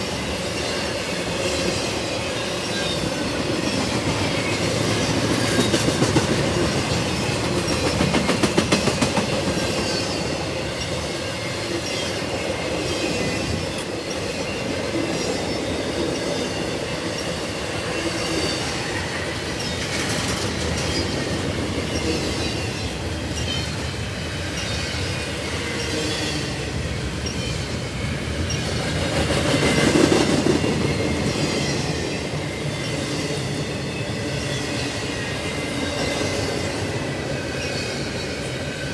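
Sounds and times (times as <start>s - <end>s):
train wheels clicking on rail joints: 0.1s - 38.9s.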